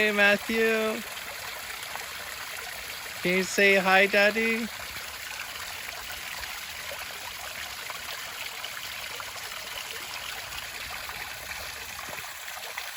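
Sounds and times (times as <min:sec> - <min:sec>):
small waterfall trickling: 0:00.0 - 0:12.9.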